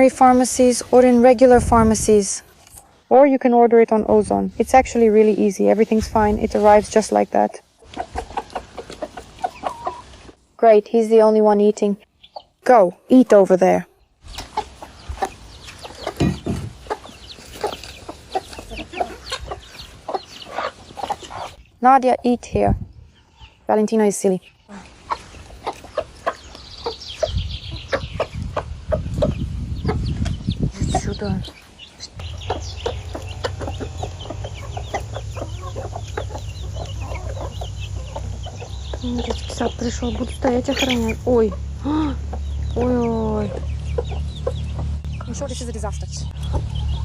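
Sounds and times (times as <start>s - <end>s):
chickens peeping and clucking: 0.0s - 47.0s.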